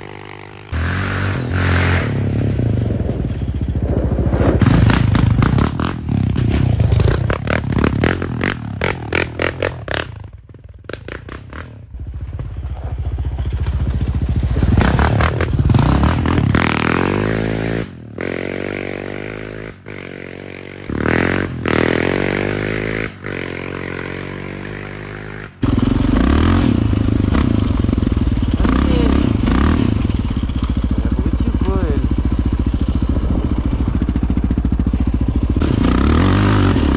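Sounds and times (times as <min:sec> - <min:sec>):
quad bike engine revving: 0:00.0 - 0:36.9.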